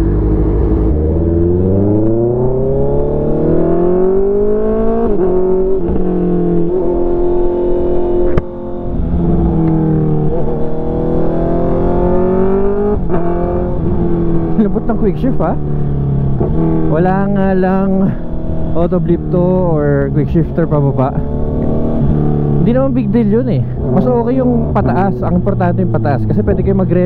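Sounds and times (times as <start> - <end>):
motorcycle engine revving through gears: 0.0 - 27.0.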